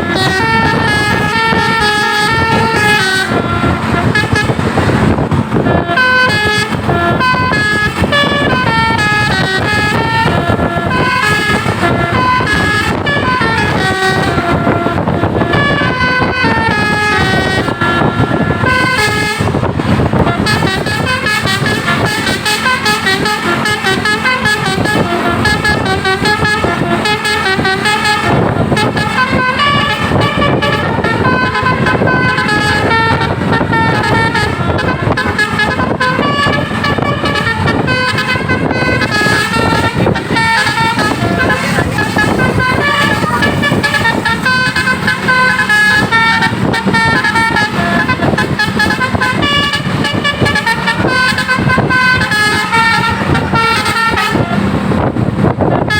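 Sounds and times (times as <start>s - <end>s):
multi-tone air horn melody: 0.0s - 55.9s
steady low rumble: 0.0s - 55.9s.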